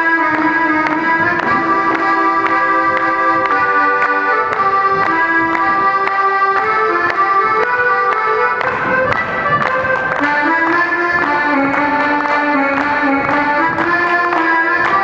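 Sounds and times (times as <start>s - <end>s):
accordion playing folk dance tune: 0.0s - 15.0s.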